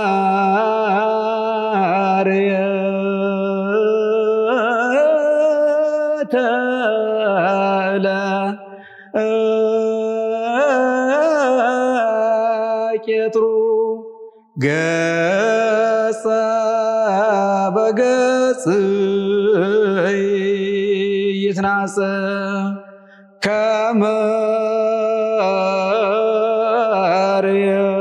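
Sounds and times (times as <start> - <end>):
man singing liturgical chant: 0.0 - 14.0, 14.6 - 28.0.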